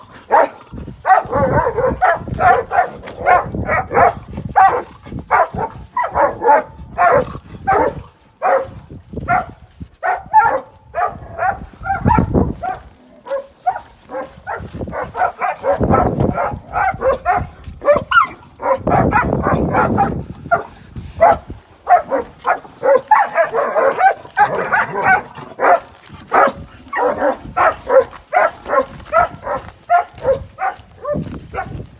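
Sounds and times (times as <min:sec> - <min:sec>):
dogs barking and yelping: 0:00.0 - 0:31.9
dogs scuffling and growling: 0:00.0 - 0:31.9.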